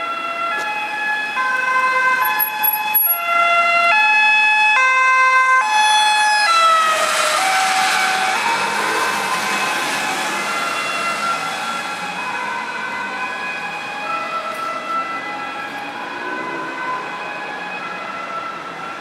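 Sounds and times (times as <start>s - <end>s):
ambulance two-tone siren: 0.0s - 19.0s.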